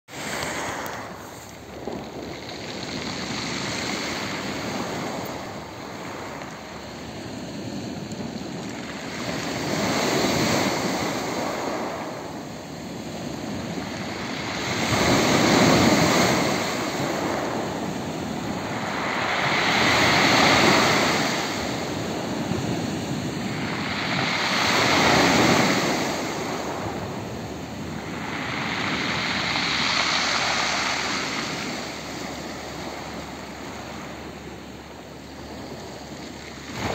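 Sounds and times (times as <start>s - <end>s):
waves breaking on pebble beach: 0.1s - 36.9s.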